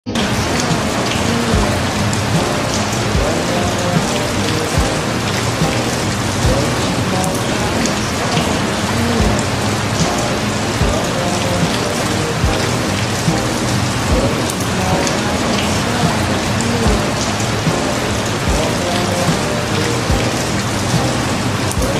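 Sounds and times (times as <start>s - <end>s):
faint music: 0.0s - 21.9s
rain falling steadily: 0.1s - 21.9s.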